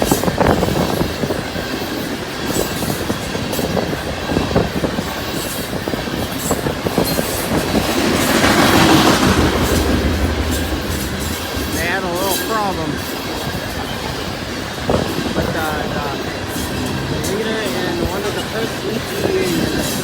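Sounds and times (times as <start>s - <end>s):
train rumble: 0.0s - 20.0s
train wheels clicking over rail joints: 0.0s - 20.0s.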